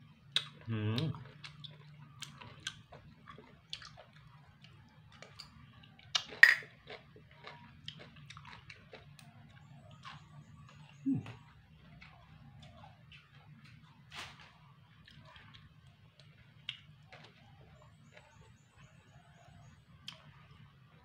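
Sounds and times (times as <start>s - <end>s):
chewing with wet crunches: 0.0s - 21.0s
faint low hum: 0.0s - 21.0s.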